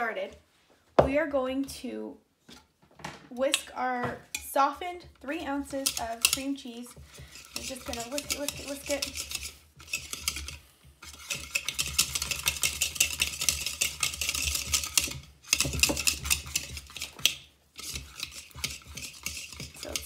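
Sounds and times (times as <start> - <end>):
whisk clicking and scraping bowl: 3.5 - 20.0.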